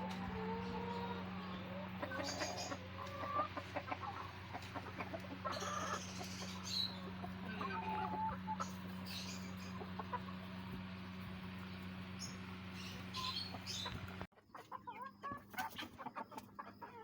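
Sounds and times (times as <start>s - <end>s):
steady low hum: 0.0s - 14.3s
chickens clucking: 0.0s - 17.0s.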